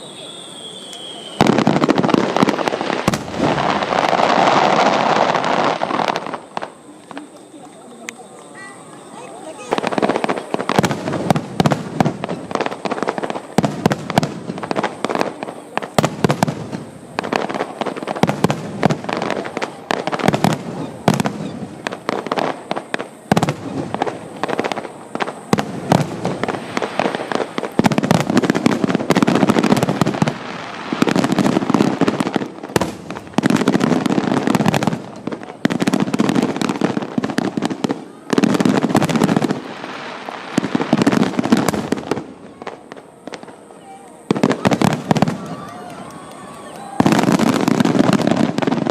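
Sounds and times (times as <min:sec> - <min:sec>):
fireworks booming and crackling: 0:00.0 - 0:48.9.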